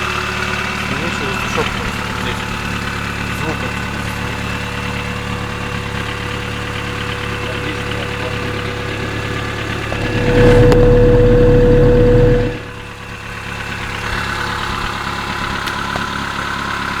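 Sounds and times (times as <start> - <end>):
car engine idling with knock: 0.0 - 17.0.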